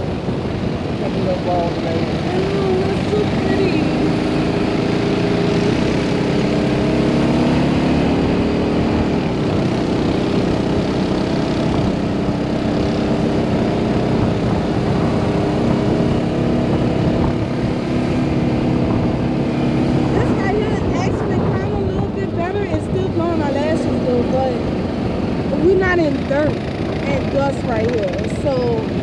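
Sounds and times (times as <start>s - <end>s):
atv engine running: 0.0s - 29.0s
wind and road noise: 0.0s - 29.0s.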